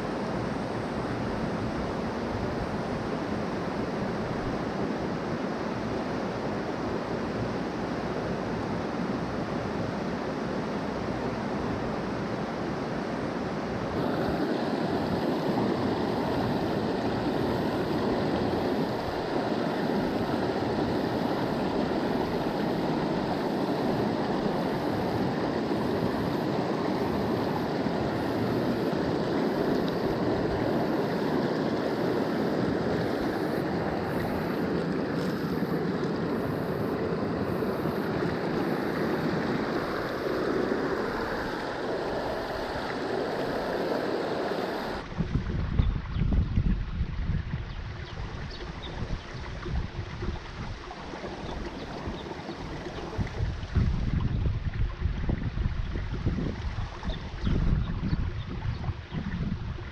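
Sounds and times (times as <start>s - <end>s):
creek water rushing: 0.0s - 46.0s, 47.0s - 59.9s.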